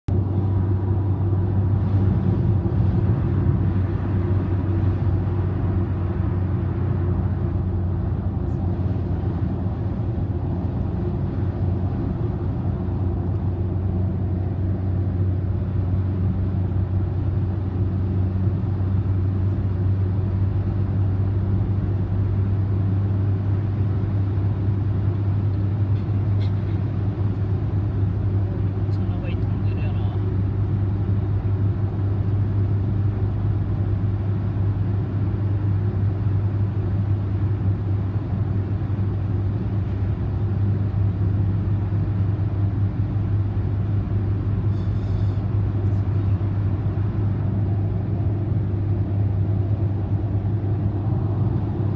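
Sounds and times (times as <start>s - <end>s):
car cabin road drone: 0.1s - 51.9s.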